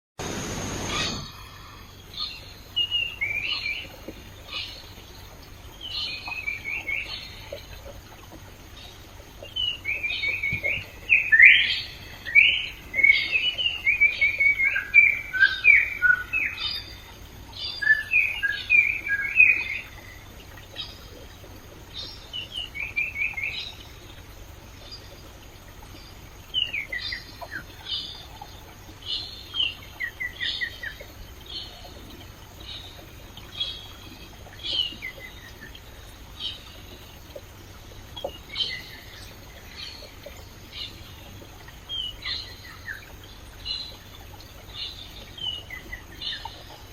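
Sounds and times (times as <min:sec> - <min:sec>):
stream water flowing: 0:00.2 - 0:46.9.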